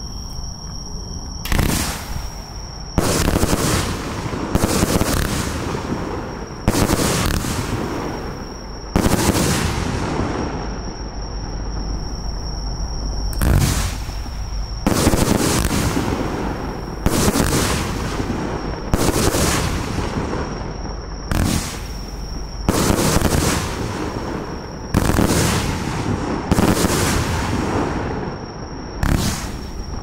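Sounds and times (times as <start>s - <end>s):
firework crackle and hiss: 0.0s - 30.0s
firework bangs: 0.5s - 30.0s.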